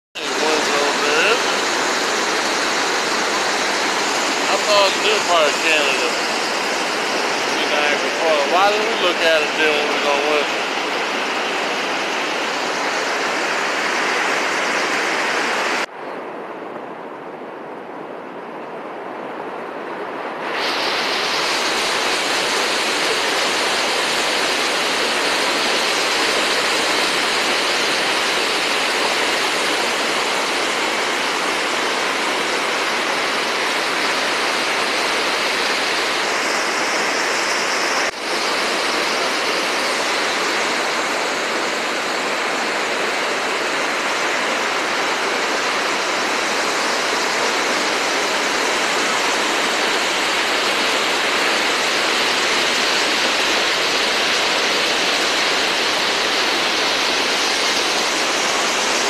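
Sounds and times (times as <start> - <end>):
waterfall rushing: 0.2 - 15.9, 20.4 - 59.0.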